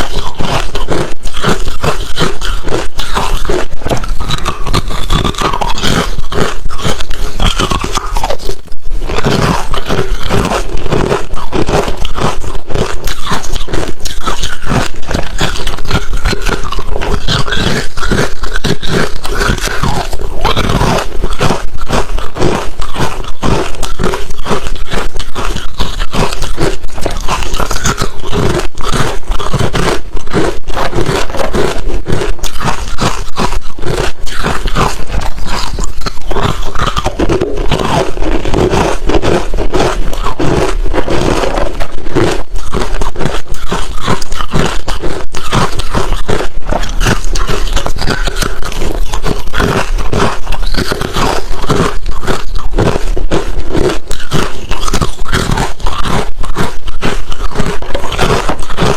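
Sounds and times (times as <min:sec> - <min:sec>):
crunching ice being chewed: 0:00.0 - 0:58.9.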